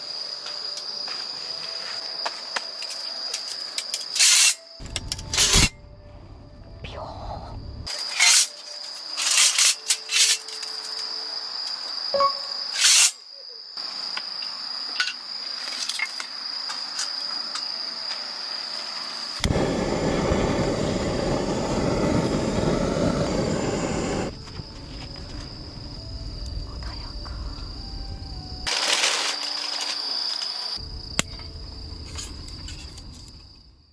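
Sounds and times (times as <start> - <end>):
insects trilling: 0.0 - 5.6, 6.8 - 33.9.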